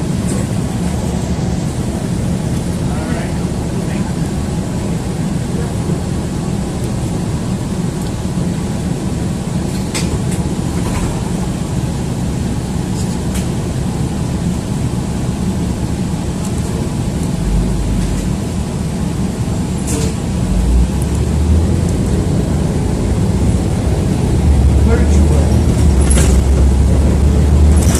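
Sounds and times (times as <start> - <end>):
bus engine and road rumble: 0.0 - 27.9.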